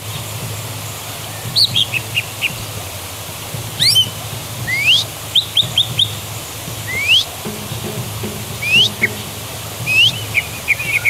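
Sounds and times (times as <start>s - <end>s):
bird calling with chirps and whistles: 0.0s - 2.8s, 3.7s - 11.0s
steady low hum: 0.0s - 11.0s.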